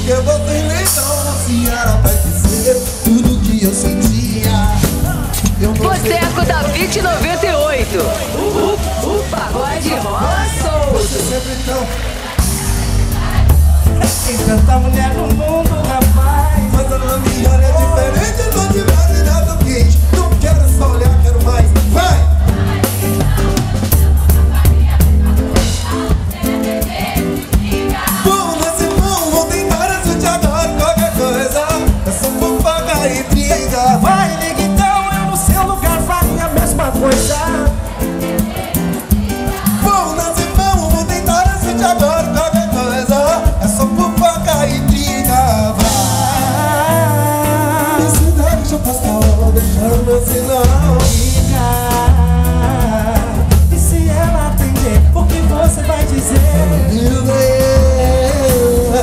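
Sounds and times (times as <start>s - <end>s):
man singing: 0.0s - 12.4s, 13.5s - 26.4s, 28.0s - 59.0s
live band playing: 0.0s - 59.0s.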